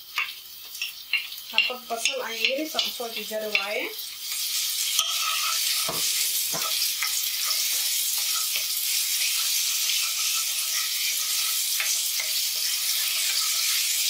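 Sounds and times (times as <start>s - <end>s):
onions sizzling in oil: 0.0s - 14.0s
spatula scraping pan: 0.2s - 14.0s.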